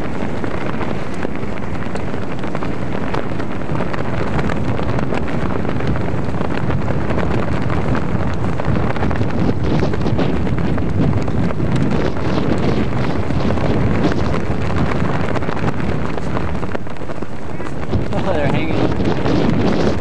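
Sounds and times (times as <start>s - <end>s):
crackles: 0.0s - 20.0s
wind buffeting microphone: 0.0s - 20.0s.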